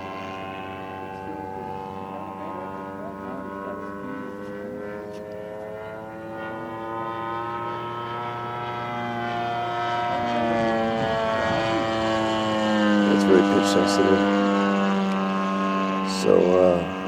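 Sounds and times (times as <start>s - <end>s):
model airplane engine drone: 0.0s - 17.0s.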